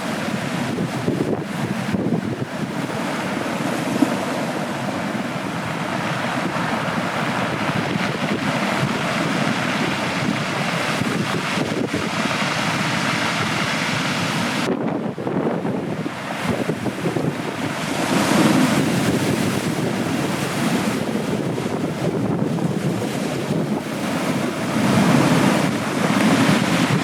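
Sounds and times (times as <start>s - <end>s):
ocean surf washing ashore: 0.0s - 27.0s
wind buffeting microphone: 0.0s - 27.0s.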